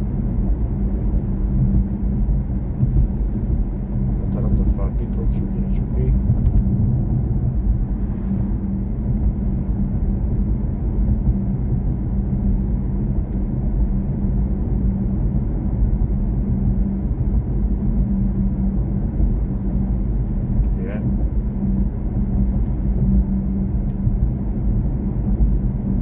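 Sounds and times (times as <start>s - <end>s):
faint hum: 0.0s - 26.0s
road and tyre rumble: 0.0s - 26.0s.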